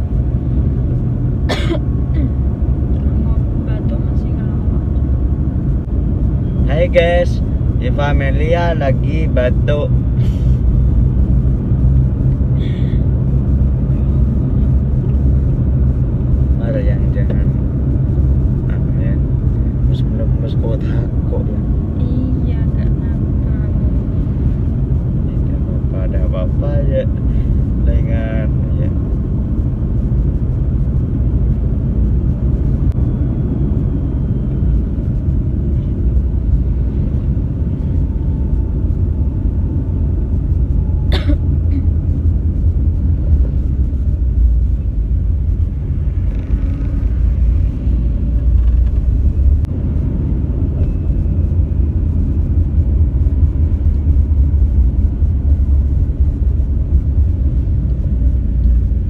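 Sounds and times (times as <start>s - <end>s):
road and wind noise: 0.0s - 59.0s
vehicle rumbling on the move: 0.0s - 59.0s.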